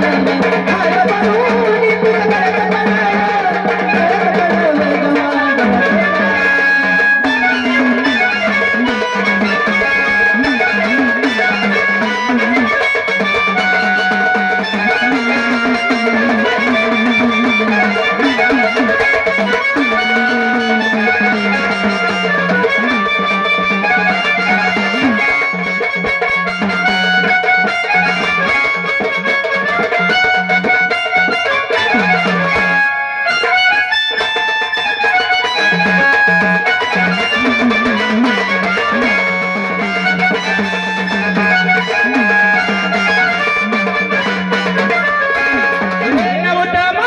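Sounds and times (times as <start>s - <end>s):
drums: 0.0s - 47.0s
plucked-string melody: 0.0s - 47.0s.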